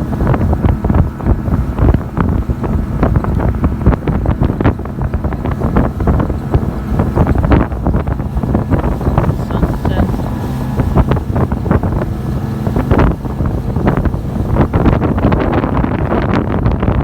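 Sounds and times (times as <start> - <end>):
boat engine running: 0.0 - 17.0
wind blowing across microphone: 0.0 - 17.0.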